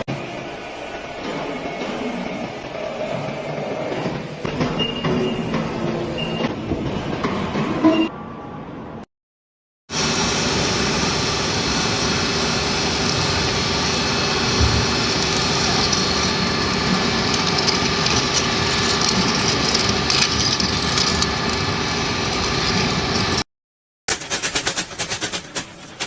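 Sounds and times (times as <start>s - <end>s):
loud mechanical machine noise: 0.0s - 7.6s, 9.9s - 23.5s.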